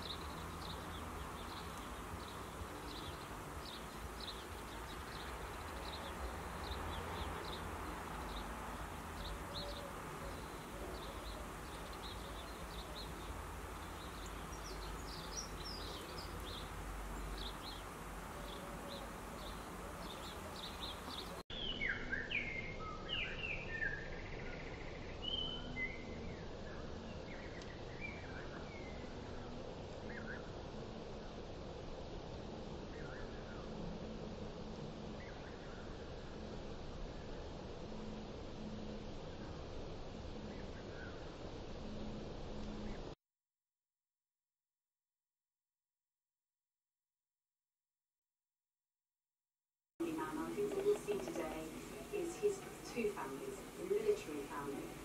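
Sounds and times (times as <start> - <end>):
songbirds chirping: 0.0 - 43.2, 50.0 - 55.0.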